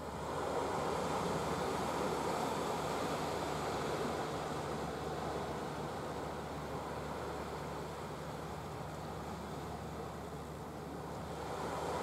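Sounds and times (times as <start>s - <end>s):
sea water rushing: 0.0s - 12.0s.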